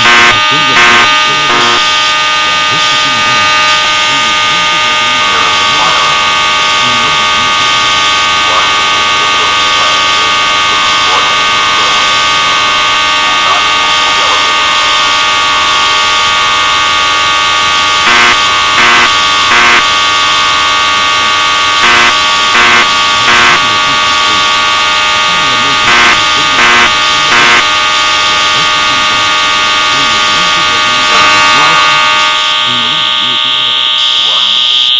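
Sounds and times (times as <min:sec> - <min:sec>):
evacuation alarm short beeps: 0:00.0 - 0:34.9
fire alarm horns buzzing: 0:00.0 - 0:34.9.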